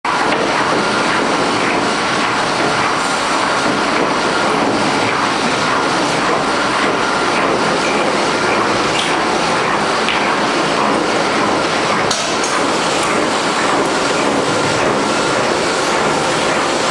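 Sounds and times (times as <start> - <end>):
boring mill machining metal: 0.1 - 16.9.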